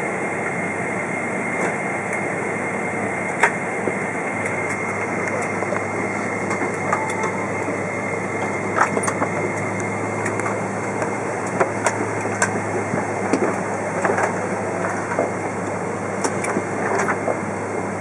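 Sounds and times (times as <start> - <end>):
engine and air-conditioning hum: 0.0 - 18.0
thin high whine: 0.0 - 18.0.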